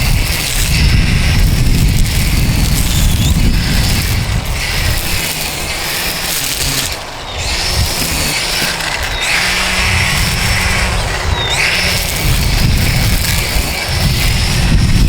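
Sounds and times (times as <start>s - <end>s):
string trimmer running: 0.0s - 15.0s.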